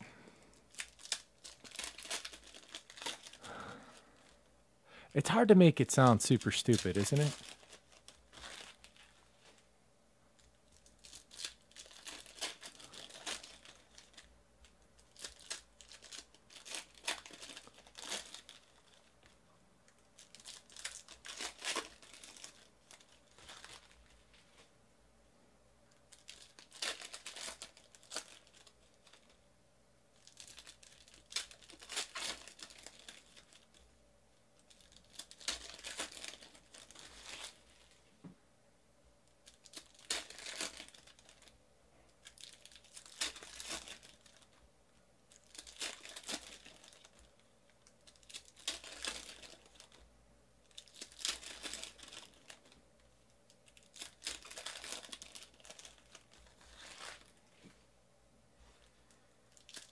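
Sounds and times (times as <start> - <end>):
wrappers torn and crinkled: 0.7 - 4.4, 6.3 - 9.6, 10.4 - 24.7, 26.0 - 29.4, 30.1 - 33.9, 34.6 - 38.0, 39.3 - 41.6, 42.2 - 44.6, 45.2 - 50.0, 50.6 - 57.4, 59.5 - 59.9.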